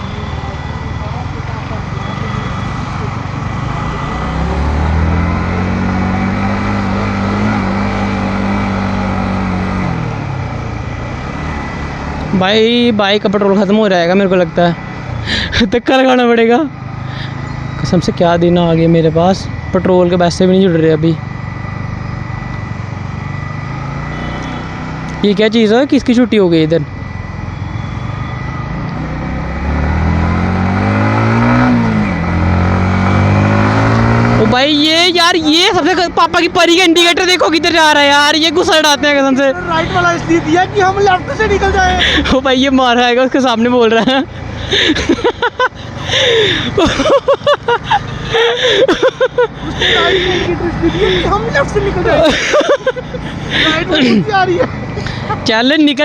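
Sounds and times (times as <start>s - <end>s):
motorcycle engine under throttle: 0.0s - 56.0s.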